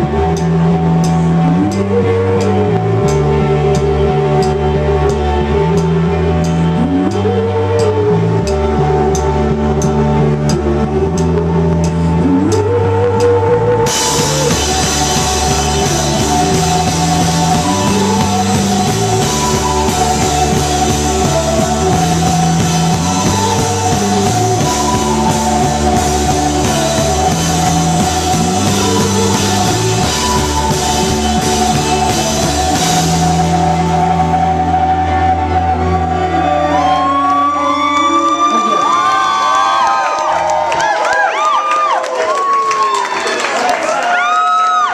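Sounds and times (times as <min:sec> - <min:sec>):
drum kit: 0:00.0 - 0:37.9
electric guitar chords: 0:00.0 - 0:41.5
bass guitar: 0:00.0 - 0:43.0.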